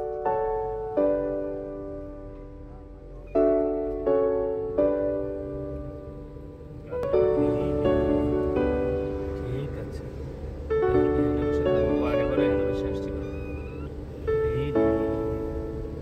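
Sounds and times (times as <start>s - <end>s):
low steady rumble: 0.0s - 16.0s
slow piano chords: 0.0s - 16.0s.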